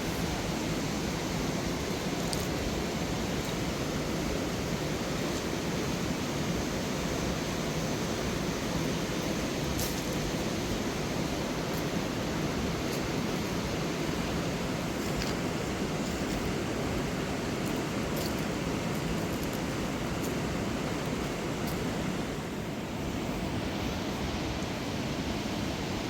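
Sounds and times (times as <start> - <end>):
river rushing over rocks: 0.0 - 26.0.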